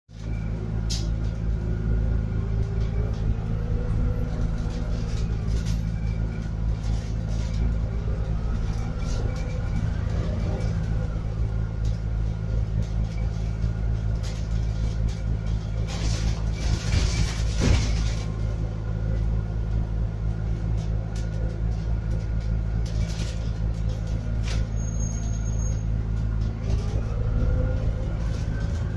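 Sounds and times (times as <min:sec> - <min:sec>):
bus engine droning: 0:00.1 - 0:28.9.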